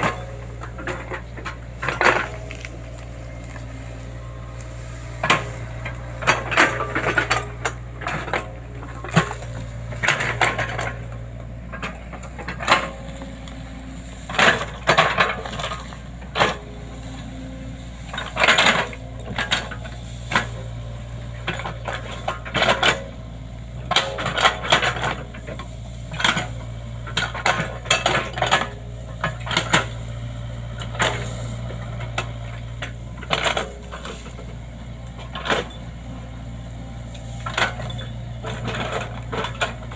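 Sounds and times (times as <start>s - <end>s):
excavator engine running: 0.0s - 39.9s
metallic clanks and knocks: 0.0s - 39.9s.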